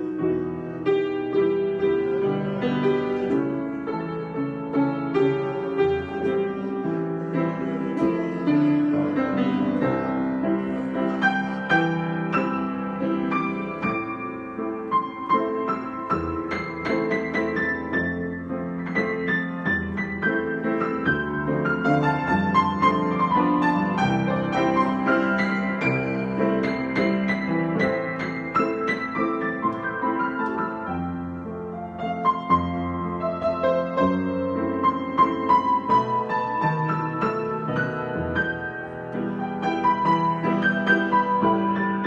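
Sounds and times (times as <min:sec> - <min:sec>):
piano improvisation: 0:00.0 - 0:42.0.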